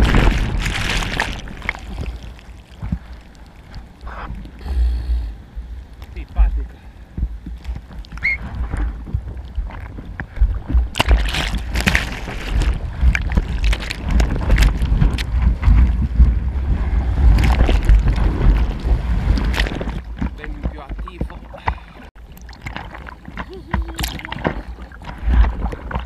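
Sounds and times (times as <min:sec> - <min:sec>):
water churning and splashing: 0:00.0 - 0:26.0
wind rumbling on microphone: 0:00.0 - 0:26.0.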